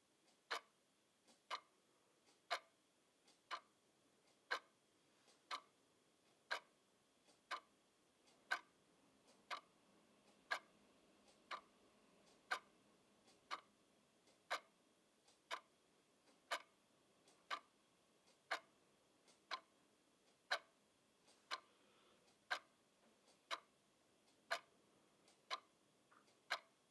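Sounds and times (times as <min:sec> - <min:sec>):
clock ticking: 0:00.2 - 0:26.9.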